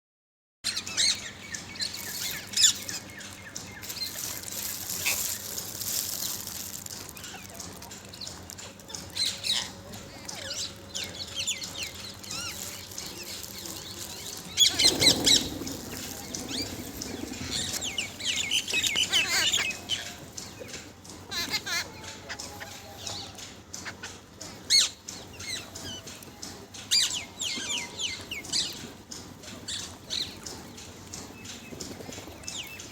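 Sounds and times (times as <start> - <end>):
parrots chirping and calling: 0.7 - 6.5, 7.1 - 28.9.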